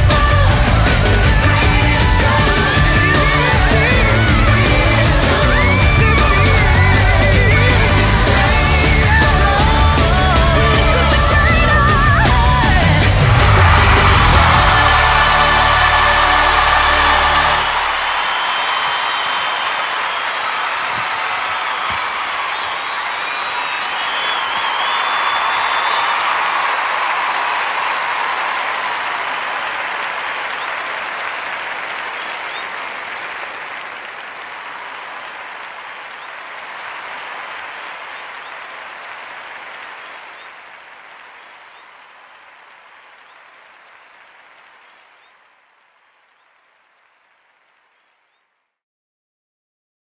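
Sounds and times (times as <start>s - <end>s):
crowd applauding and cheering: 0.0s - 48.4s.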